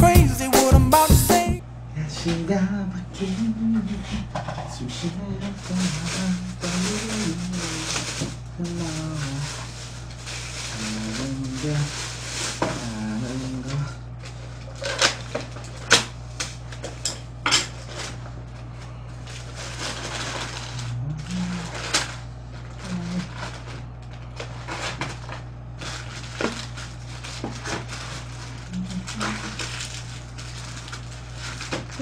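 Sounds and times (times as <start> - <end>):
low hum: 1.5 - 32.0
paper and plastic packaging rustling: 3.2 - 17.0, 17.7 - 32.0.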